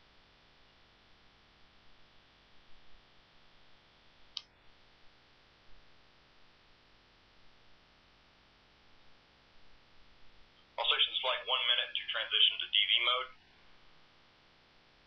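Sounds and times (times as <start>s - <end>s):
faint broadcast hiss: 0.0s - 15.0s.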